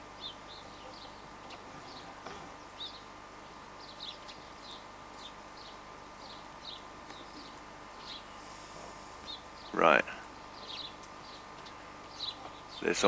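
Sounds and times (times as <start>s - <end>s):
faint outdoor hiss: 0.0s - 13.0s
small birds chirping: 0.0s - 13.0s.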